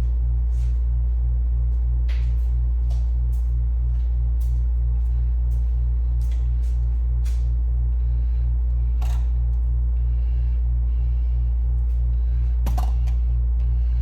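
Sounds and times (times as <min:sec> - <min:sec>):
low throbbing electrical hum: 0:00.0 - 0:14.0.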